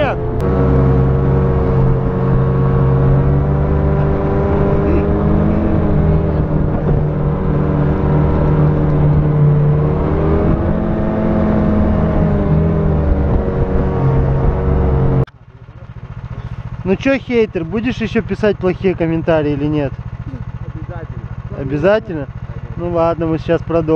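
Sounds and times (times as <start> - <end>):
snowmobile engine under load: 0.0 - 23.9.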